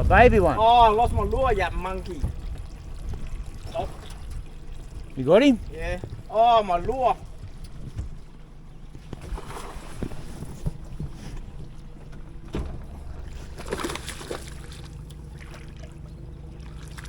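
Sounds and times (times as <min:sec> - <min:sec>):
boat motor running: 0:00.0 - 0:17.0
water splashes: 0:00.0 - 0:17.0.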